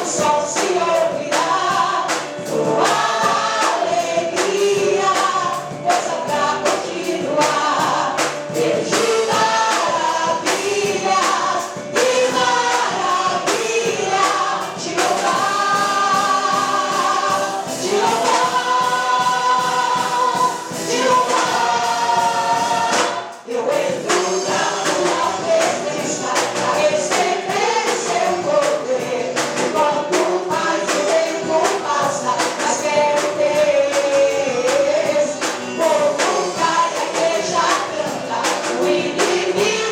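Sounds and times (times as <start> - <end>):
band with steady beat: 0.0 - 39.9
choir singing: 0.0 - 39.9.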